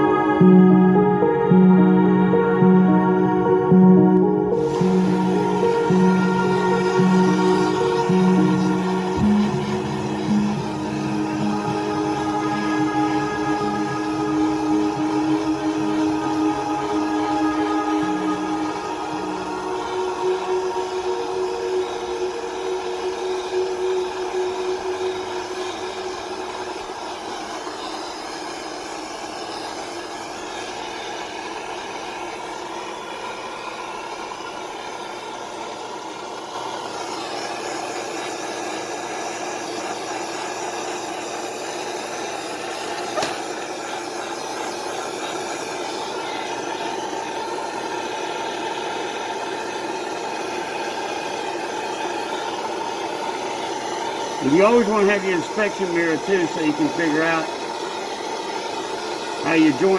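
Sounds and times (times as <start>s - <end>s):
gas torch flame hissing: 4.5s - 59.9s.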